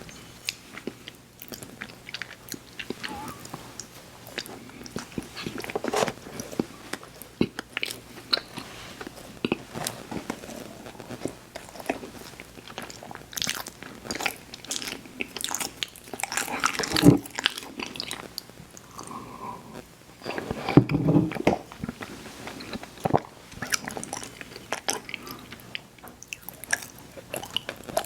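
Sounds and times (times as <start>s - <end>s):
person chewing sweets: 0.0s - 19.4s, 20.2s - 28.0s.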